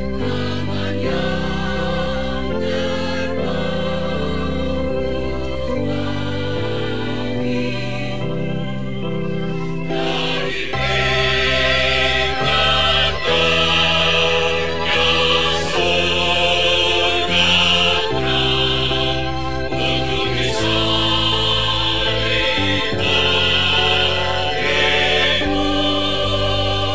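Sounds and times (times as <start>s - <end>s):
church choir singing a hymn: 0.0s - 26.9s.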